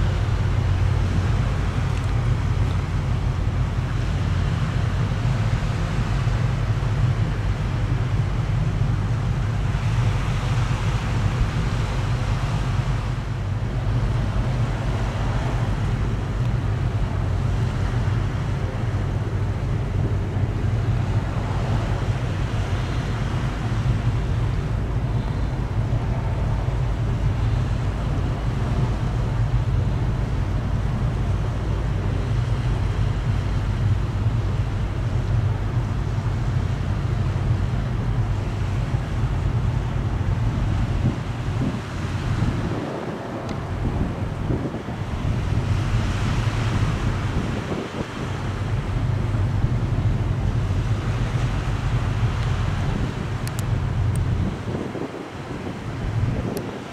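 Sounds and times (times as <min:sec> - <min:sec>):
small waves washing: 0:00.0 - 0:56.9
wind buffeting microphone: 0:00.0 - 0:56.9.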